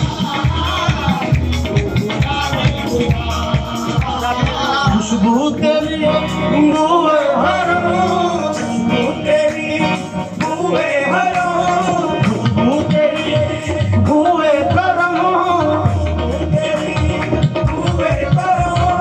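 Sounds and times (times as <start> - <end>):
men singing: 0.0 - 19.0
percussion beat: 0.0 - 19.0.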